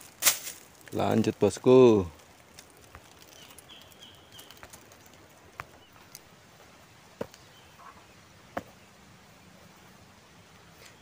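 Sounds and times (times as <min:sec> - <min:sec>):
faint birds chirping: 0:00.8 - 0:11.0.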